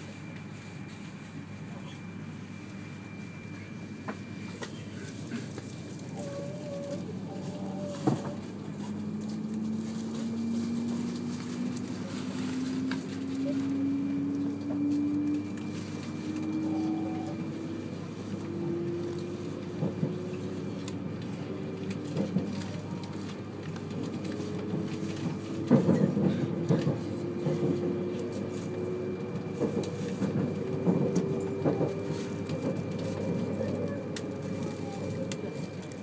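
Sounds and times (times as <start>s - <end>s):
rumbling running noise: 5.2s - 36.0s
train motor hum rising in pitch: 6.1s - 36.0s.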